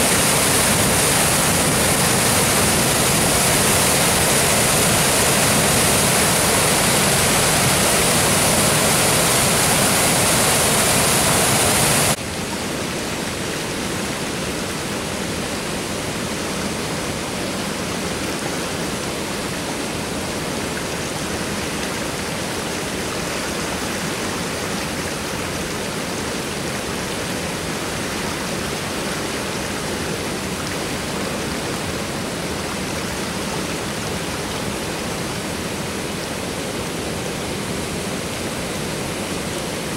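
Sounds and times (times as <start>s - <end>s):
water rushing over a dam: 0.0s - 39.9s.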